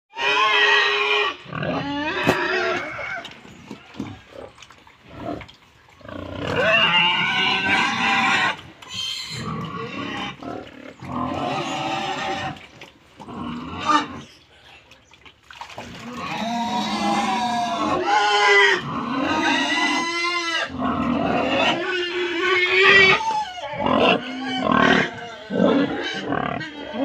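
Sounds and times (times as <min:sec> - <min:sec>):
pigs squealing: 0:00.1 - 0:05.4, 0:06.0 - 0:14.4, 0:15.8 - 0:27.0.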